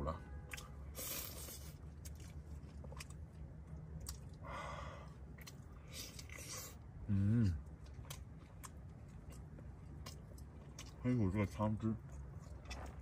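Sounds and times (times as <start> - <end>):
person chewing: 0.5 - 11.0, 12.0 - 13.0.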